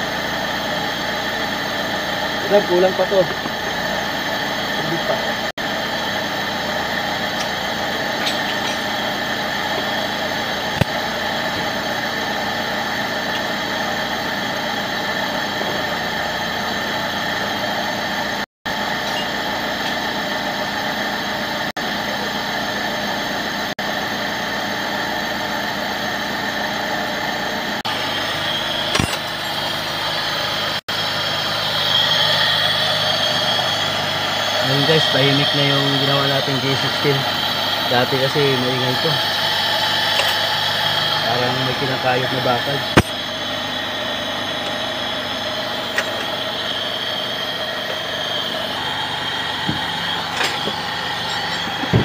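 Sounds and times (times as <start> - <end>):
car engine idling: 0.0 - 18.0, 27.0 - 52.0.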